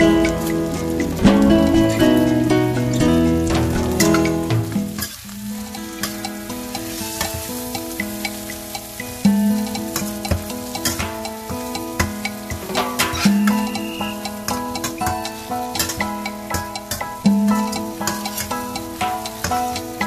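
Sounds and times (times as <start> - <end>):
background music: 0.0 - 20.0
food sizzling in a wok: 0.0 - 20.0
spoon clinking and scraping a pan: 3.5 - 20.0.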